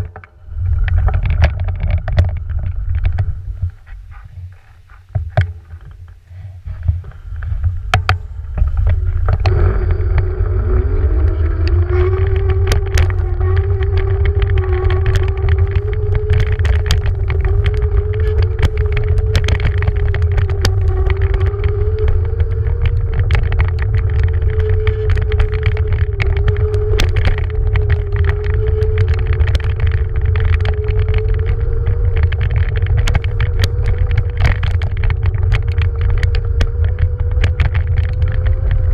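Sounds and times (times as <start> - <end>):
clicks and knocks from riding: 0.0 - 38.9
wind buffeting microphone: 0.0 - 38.9
electric scooter motor whining: 7.1 - 38.9.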